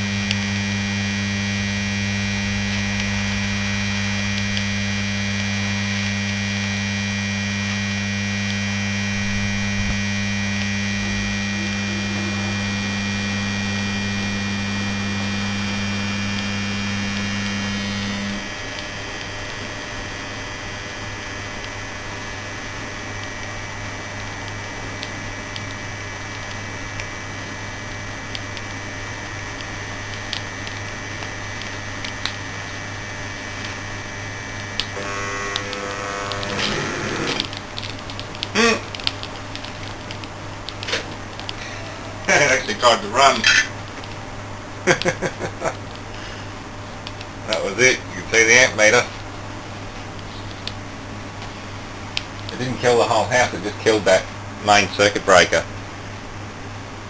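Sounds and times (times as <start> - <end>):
motor humming loudly: 0.0 - 44.2, 44.8 - 46.5.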